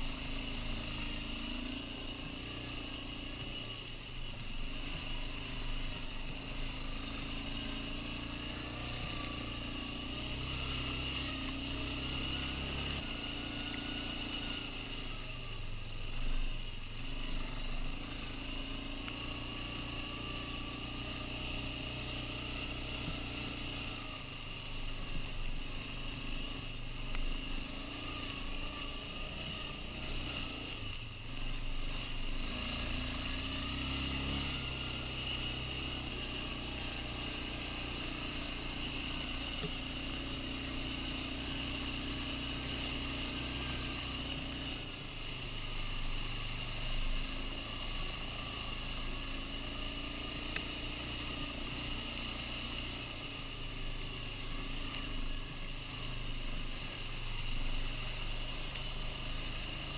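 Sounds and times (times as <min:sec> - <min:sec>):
quad bike engine revving: 0:00.0 - 0:03.8, 0:04.6 - 0:15.2, 0:16.4 - 0:59.9.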